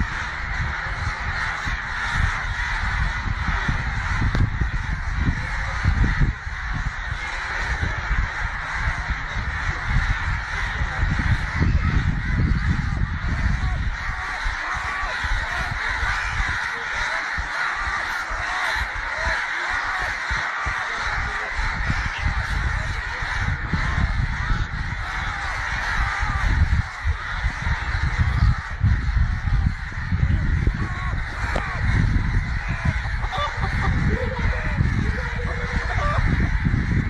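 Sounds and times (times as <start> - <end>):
birds chattering: 0.0 - 37.0.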